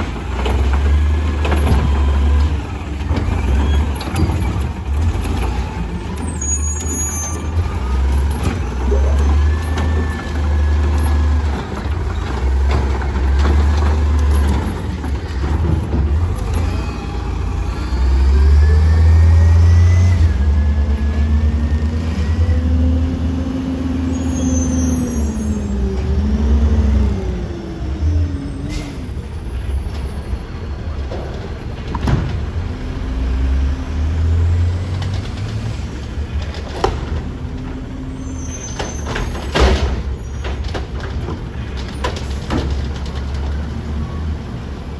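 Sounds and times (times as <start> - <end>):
garbage truck engine rumble: 0.0 - 44.9.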